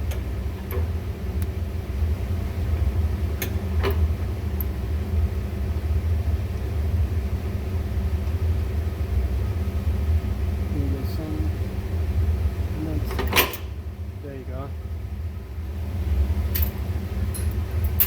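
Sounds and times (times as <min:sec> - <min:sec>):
boiler room machinery humming: 0:00.0 - 0:18.0.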